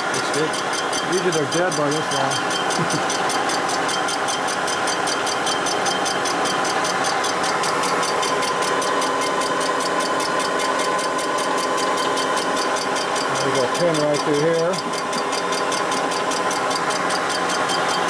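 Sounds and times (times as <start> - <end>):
fast even ticking of cutter: 0.0 - 18.0.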